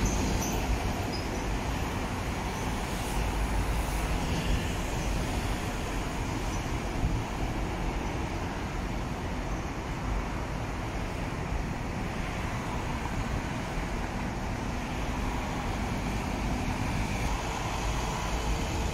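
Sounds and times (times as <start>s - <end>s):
road traffic passing: 0.0s - 18.9s.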